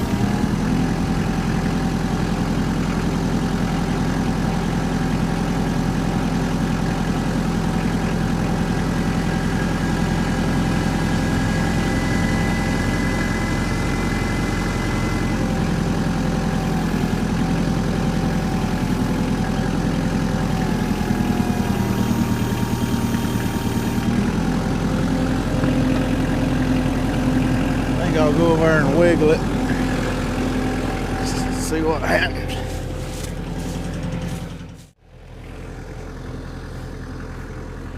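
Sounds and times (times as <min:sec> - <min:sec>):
engine idling: 0:00.0 - 0:37.9.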